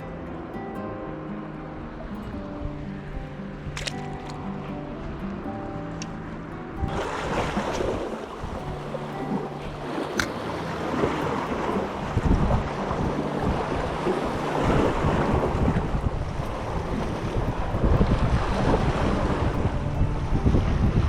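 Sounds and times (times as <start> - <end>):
sea waves on shore: 0.0 - 21.0
wind buffeting microphone: 0.0 - 21.0.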